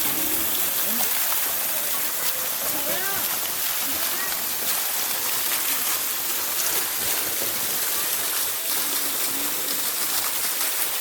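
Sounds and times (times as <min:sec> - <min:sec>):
flowing water hiss: 0:00.0 - 0:11.0.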